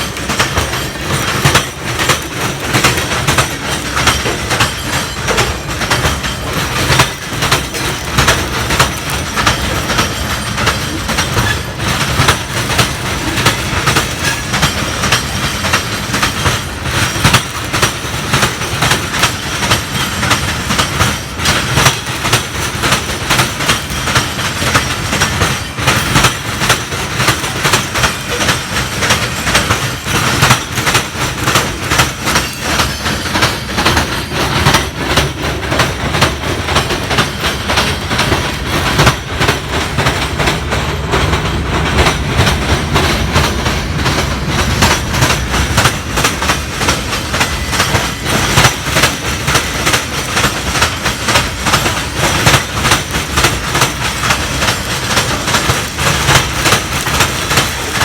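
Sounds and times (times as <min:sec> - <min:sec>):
train rumble: 0:00.0 - 0:58.0
train wheels clicking over rail joints: 0:00.0 - 0:58.0.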